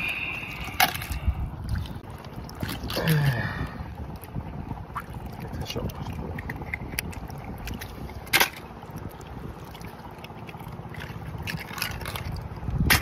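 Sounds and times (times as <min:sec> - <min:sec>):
water splashing and trickling: 0:00.0 - 0:13.0
wind rumble on microphone: 0:00.0 - 0:13.0.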